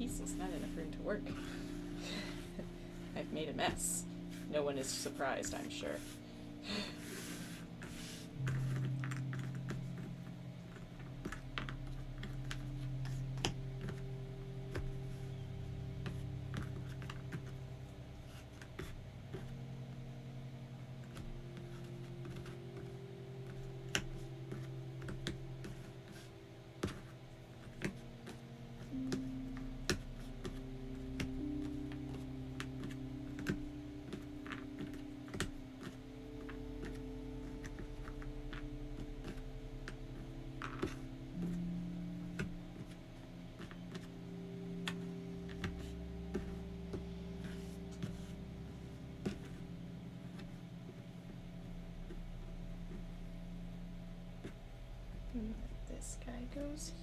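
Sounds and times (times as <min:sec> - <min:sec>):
soft ambient music: 0:00.0 - 0:57.0.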